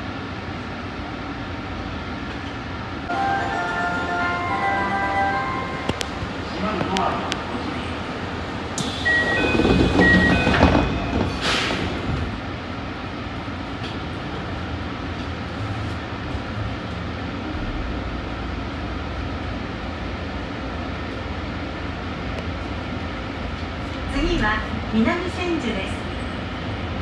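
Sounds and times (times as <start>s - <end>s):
train wheels rumbling in tunnel: 0.0s - 27.0s.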